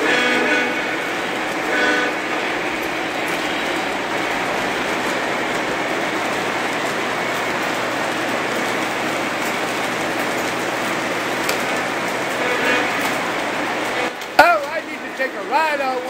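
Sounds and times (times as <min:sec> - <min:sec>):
model trains rattling on rails: 0:00.0 - 0:16.0.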